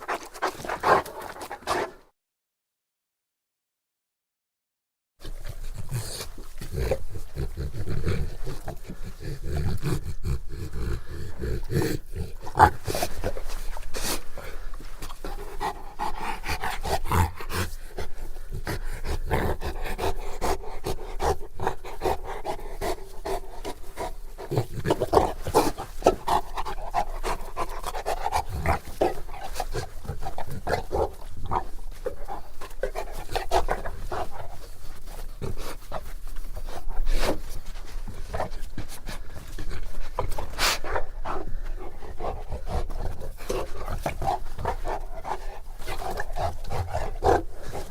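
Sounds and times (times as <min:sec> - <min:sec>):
dog panting: 0:00.0 - 0:02.0, 0:05.2 - 0:47.9.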